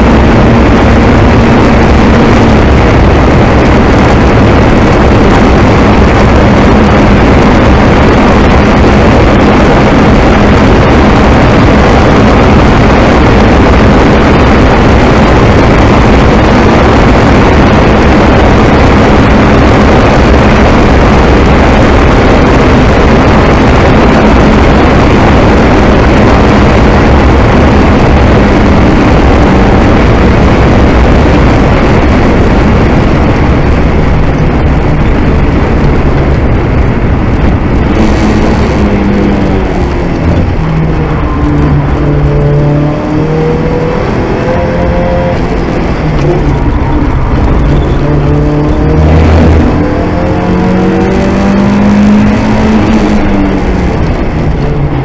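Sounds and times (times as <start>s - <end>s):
car engine running hard: 0.0s - 55.0s
road noise: 0.0s - 55.0s.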